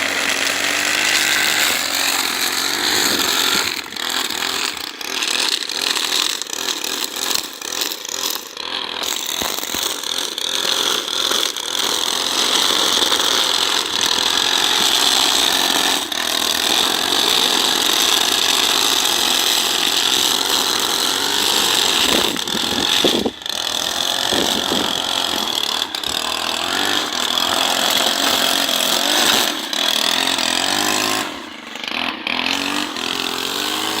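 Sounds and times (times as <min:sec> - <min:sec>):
brushcutter engine cutting: 0:00.0 - 0:34.0.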